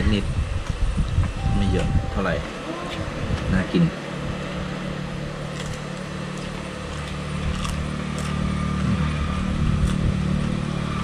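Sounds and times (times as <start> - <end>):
vehicle engine running: 0.5 - 11.0.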